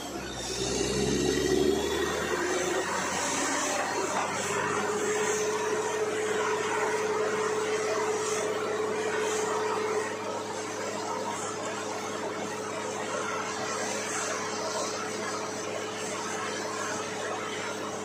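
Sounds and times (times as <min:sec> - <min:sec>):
drilling rig machinery running: 0:00.0 - 0:18.0
steady machine whine: 0:00.0 - 0:18.0.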